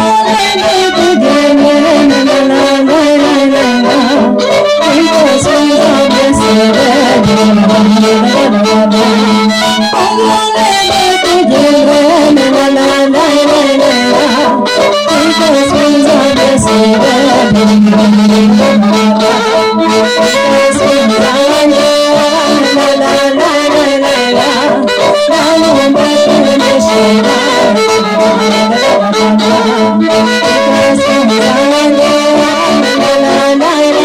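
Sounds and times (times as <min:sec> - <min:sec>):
instrumental folk music: 0:00.0 - 0:34.0.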